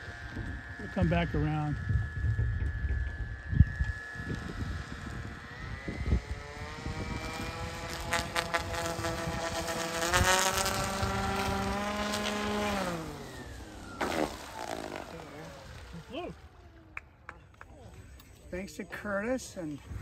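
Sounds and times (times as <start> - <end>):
electric motor propeller whining: 0.0 - 17.3.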